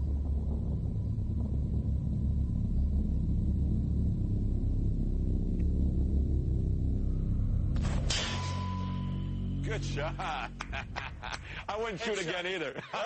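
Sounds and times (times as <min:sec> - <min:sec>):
deep steady rumble: 0:00.0 - 0:12.1.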